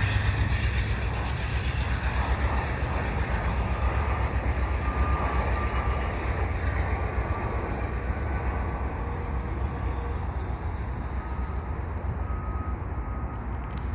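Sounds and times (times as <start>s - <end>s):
train rumbling: 0.0s - 13.9s
train wheels squealing: 0.0s - 13.9s.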